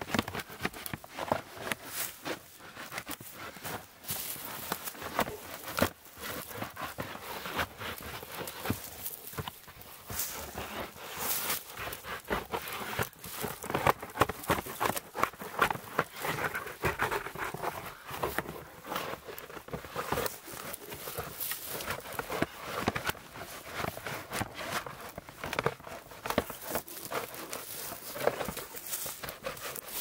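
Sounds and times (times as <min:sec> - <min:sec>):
bark peeling crackles and rustles: 0:00.3 - 0:30.0.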